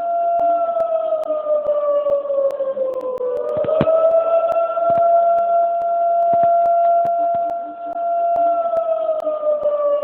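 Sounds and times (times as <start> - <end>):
steady-tone siren: 0.0 - 10.0
sharp crackling clicks: 0.4 - 9.8.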